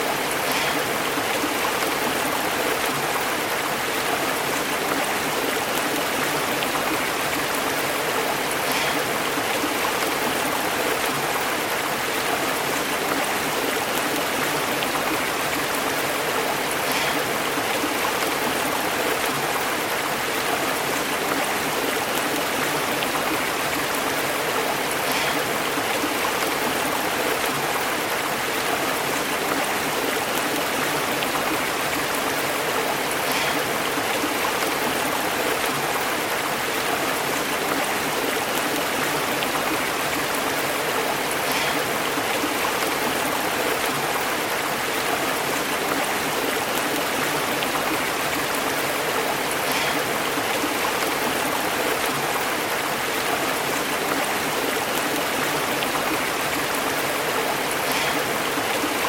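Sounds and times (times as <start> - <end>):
stream water bubbling over rocks: 0.0 - 59.0.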